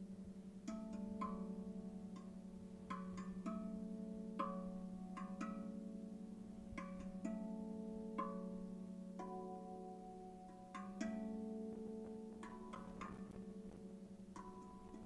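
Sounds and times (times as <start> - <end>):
steel tongue drum notes ringing: 0.0 - 15.0.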